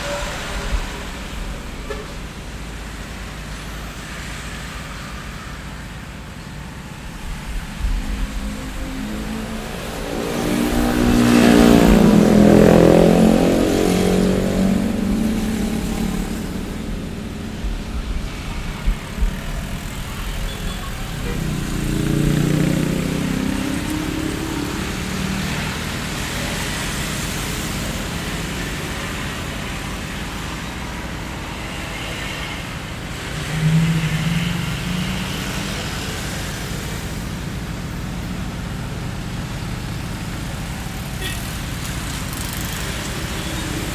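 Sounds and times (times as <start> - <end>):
cars passing: 0.0 - 43.9
roadway hum: 0.0 - 43.9.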